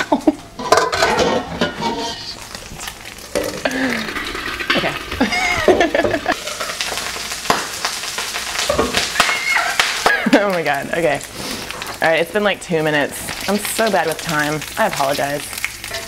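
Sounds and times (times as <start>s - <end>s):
tofu sizzling in oil: 2.2s - 16.0s.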